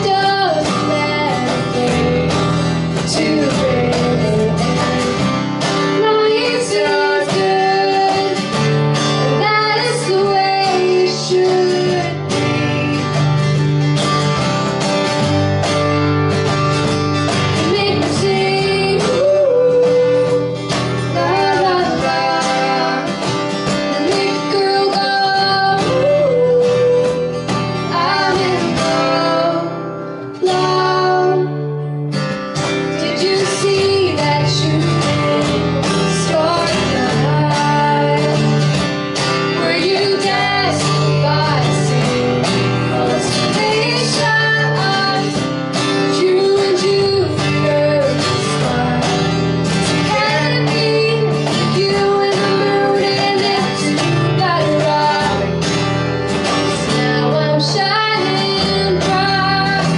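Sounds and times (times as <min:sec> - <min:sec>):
woman singing: 0:00.0 - 0:13.5, 0:17.3 - 0:31.9, 0:32.8 - 0:59.9
cajon beat: 0:00.0 - 0:29.8, 0:32.1 - 0:59.9
acoustic guitars strumming: 0:00.0 - 0:59.9.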